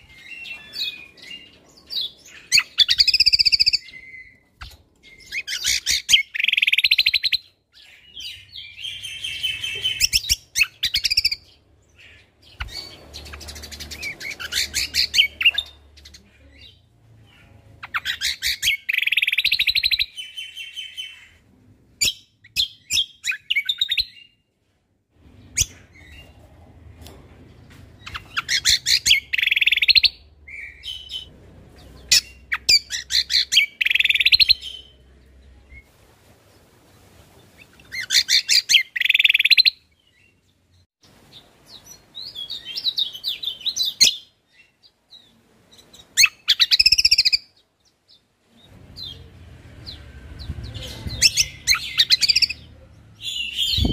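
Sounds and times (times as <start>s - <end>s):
songbird chirps and trills: 0.0s - 24.6s, 25.2s - 53.9s.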